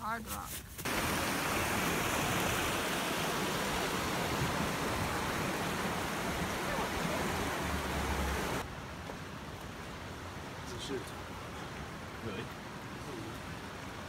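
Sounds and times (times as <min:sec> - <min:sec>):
water rushing over rocks: 0:00.8 - 0:14.0.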